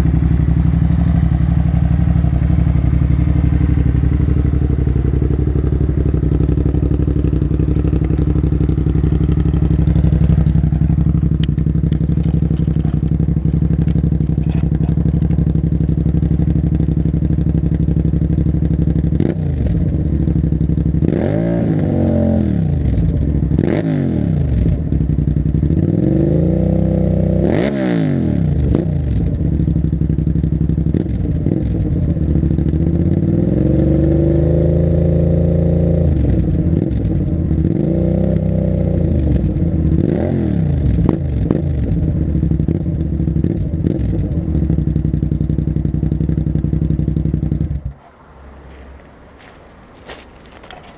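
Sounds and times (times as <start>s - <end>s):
motorcycle engine idling and revving: 0.0s - 50.9s.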